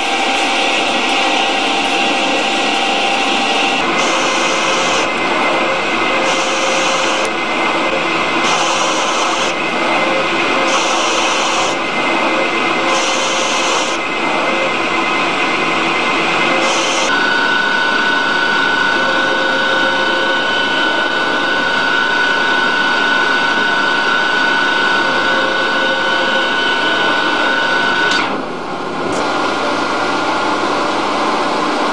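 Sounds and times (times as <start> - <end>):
lathe machine running: 0.0 - 31.9
steady high whine: 0.0 - 31.9.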